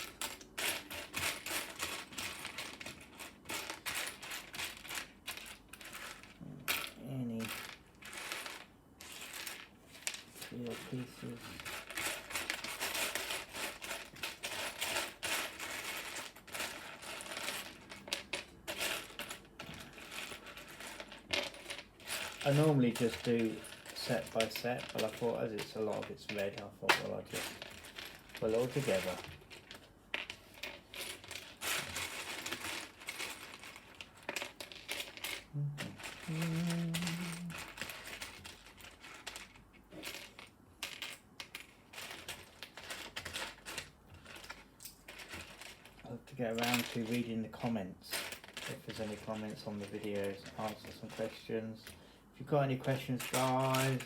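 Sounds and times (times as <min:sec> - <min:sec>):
plastic pieces rattling and clicking: 0:00.0 - 0:52.0, 0:52.7 - 0:54.0.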